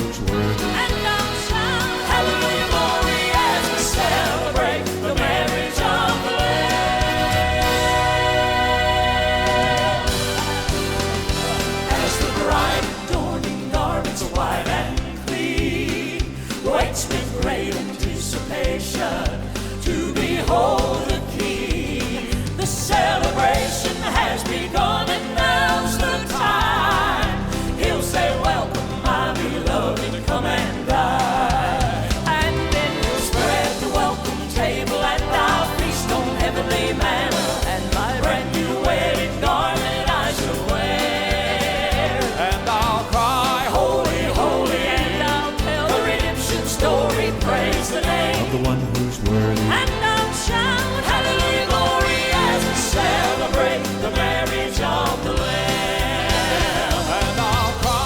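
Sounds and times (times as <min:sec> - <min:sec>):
band accompaniment: 0:00.0 - 0:58.0
vocal group singing gospel: 0:00.0 - 0:58.0.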